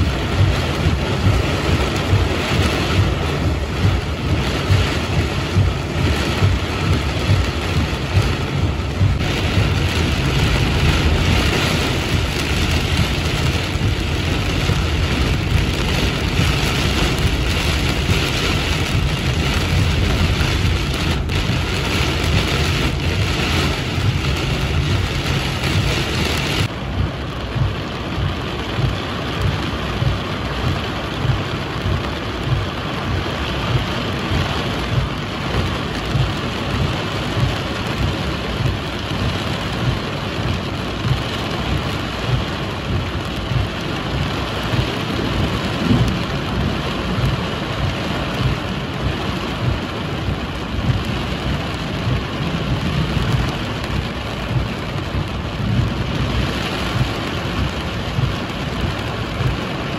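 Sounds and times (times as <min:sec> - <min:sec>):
heavy rain pouring: 0:00.0 - 0:59.9
wind gusts buffeting microphone: 0:00.0 - 0:59.9.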